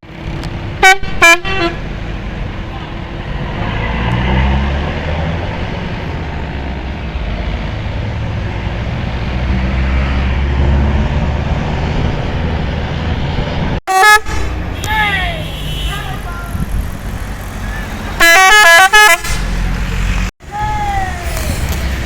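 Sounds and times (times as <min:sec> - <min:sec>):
bus engine rumble: 0:00.0 - 0:22.0
road noise: 0:00.0 - 0:22.0.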